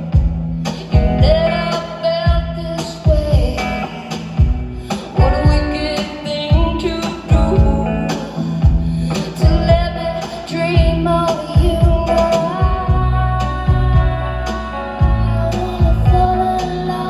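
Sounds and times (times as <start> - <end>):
guitar: 0.0 - 17.0
steady drum beat: 0.0 - 17.0
woman singing: 0.7 - 17.0.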